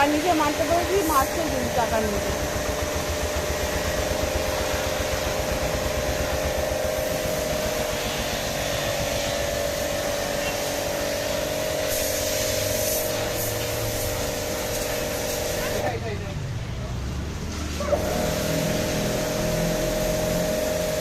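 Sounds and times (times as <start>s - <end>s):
pressure washer motor whine: 0.0s - 16.0s, 17.4s - 21.0s
water jet spraying: 0.0s - 16.2s, 17.4s - 21.0s.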